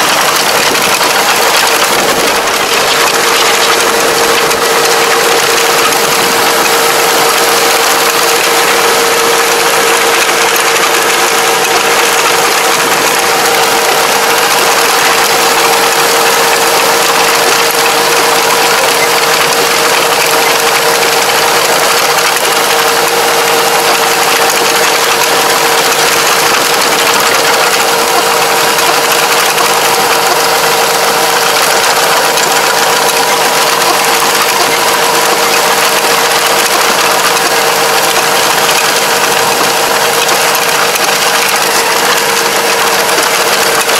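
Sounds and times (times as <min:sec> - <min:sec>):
steady whine: 0:00.0 - 0:43.9
tractor diesel engine drone: 0:00.0 - 0:43.9.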